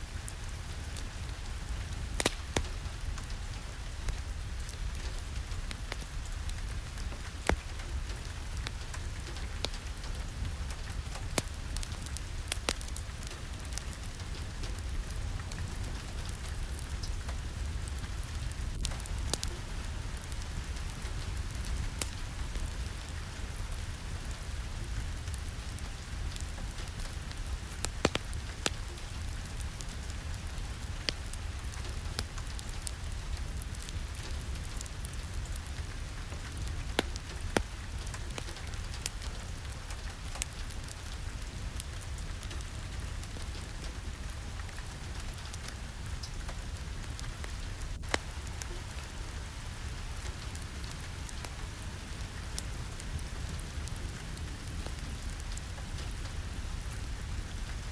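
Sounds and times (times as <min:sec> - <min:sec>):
steady rain: 0:00.0 - 0:57.9
wood fire crackling: 0:00.0 - 0:57.9.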